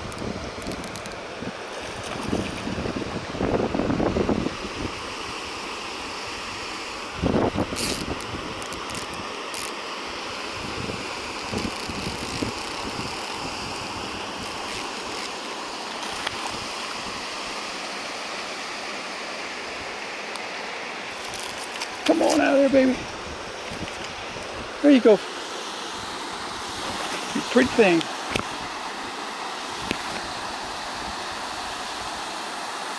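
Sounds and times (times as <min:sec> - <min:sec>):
shallow river water rushing: 0:00.0 - 0:32.9.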